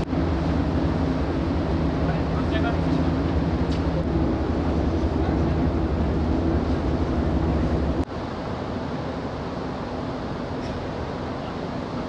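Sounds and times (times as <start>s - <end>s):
rushing noise: 0.0s - 10.0s
ferry engine drone: 0.0s - 12.0s.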